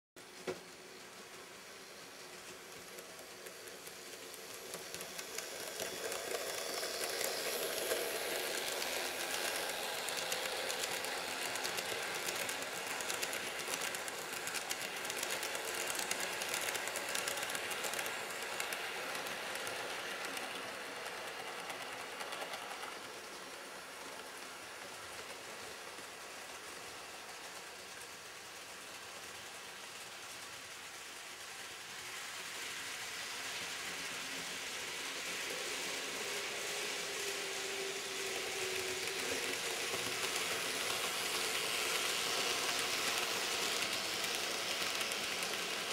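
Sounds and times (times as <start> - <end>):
model train wheels clicking on rails: 0.2 - 45.9.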